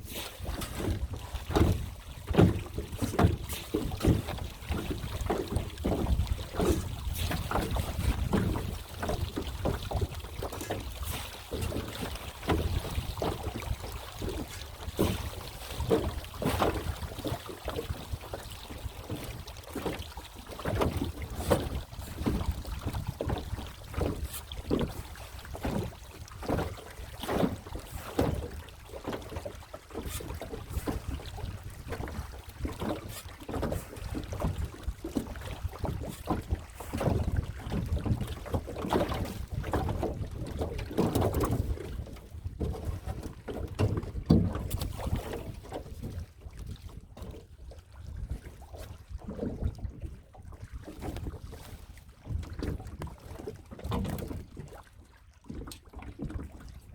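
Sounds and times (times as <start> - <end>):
wind rumble on microphone: 0.0 - 20.0, 20.7 - 28.6, 30.2 - 54.8
water splashing around boat: 0.0 - 56.9.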